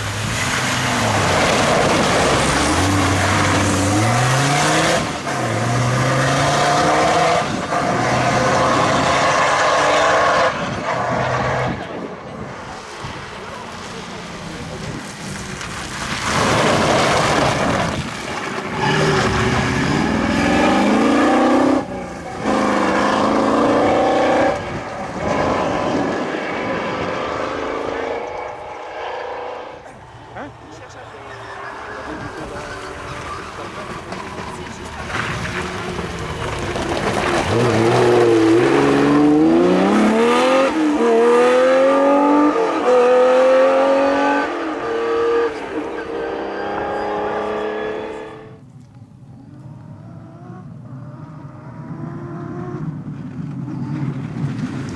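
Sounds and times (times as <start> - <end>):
rally car engine revving: 0.0 - 54.9.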